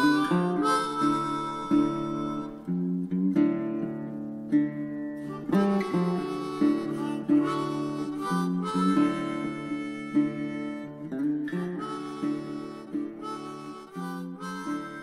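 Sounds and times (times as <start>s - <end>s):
harmonica playing chords: 0.0s - 3.1s, 5.2s - 15.0s
acoustic guitar: 0.0s - 15.0s.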